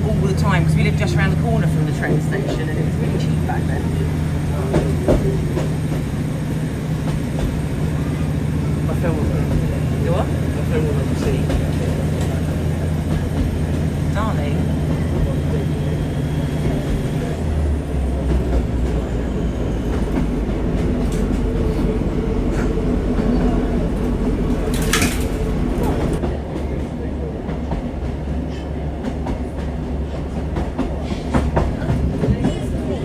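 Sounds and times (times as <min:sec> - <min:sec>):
train engine drone and rail rumble: 0:00.0 - 0:33.0.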